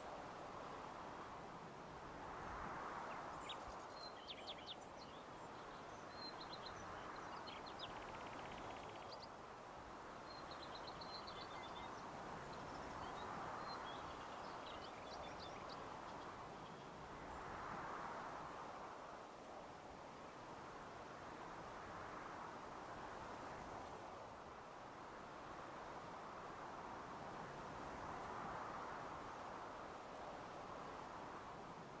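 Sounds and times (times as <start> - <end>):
faint outdoor rush: 0.0 - 32.0.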